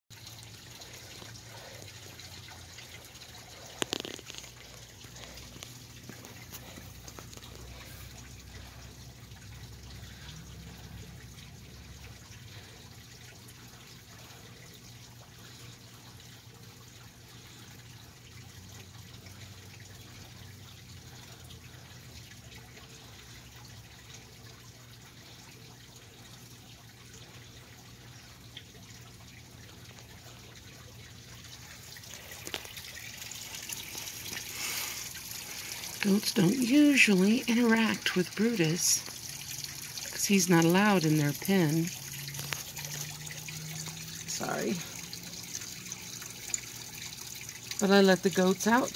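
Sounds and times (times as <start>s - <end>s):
trickle of running water: 0.1s - 48.9s.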